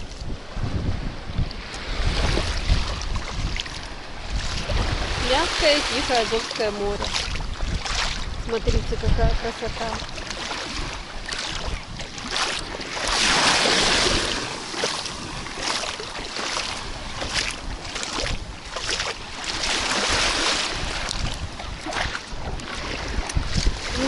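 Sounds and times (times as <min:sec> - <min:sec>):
sea waves washing onto shore: 0:00.0 - 0:24.0
wind buffeting microphone: 0:00.0 - 0:24.0.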